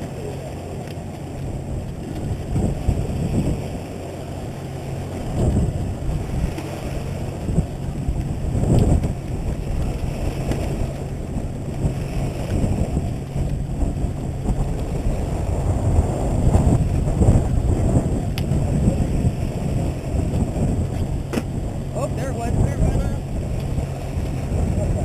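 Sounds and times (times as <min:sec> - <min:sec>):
boat engine humming: 0:00.0 - 0:25.0
wind buffeting microphone: 0:00.0 - 0:25.0.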